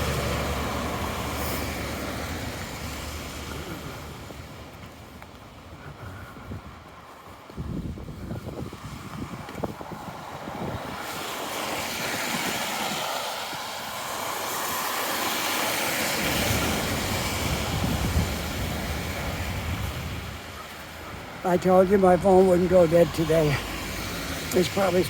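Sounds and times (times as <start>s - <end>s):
low traffic rumble: 0.0s - 25.0s
tyre noise on wet street: 0.0s - 25.0s.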